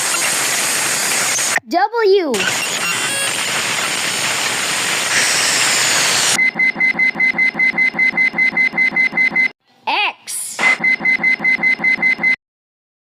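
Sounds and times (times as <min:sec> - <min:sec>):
rapid electronic beeping: 0:00.0 - 0:01.6, 0:02.4 - 0:09.5, 0:10.6 - 0:12.4.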